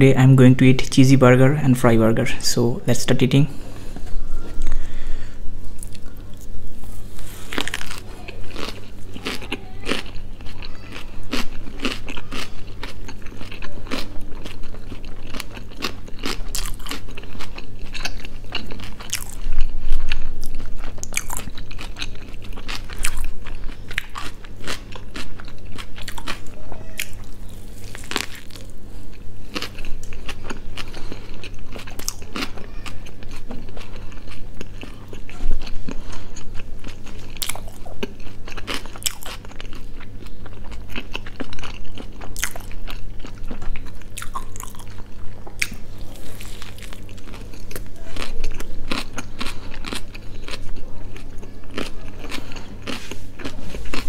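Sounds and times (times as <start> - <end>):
biting and crunching burger: 7.1 - 54.0
wet chewing and mouth clicks: 7.6 - 28.7, 29.6 - 54.0.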